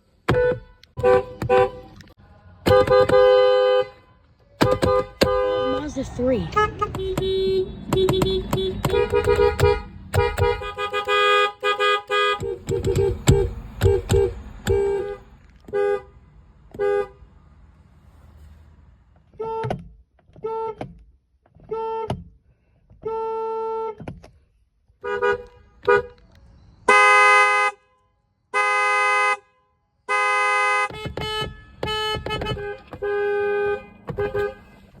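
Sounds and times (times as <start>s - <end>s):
car horns honking: 0.0s - 21.0s, 21.6s - 22.3s, 23.0s - 24.0s, 25.0s - 35.0s.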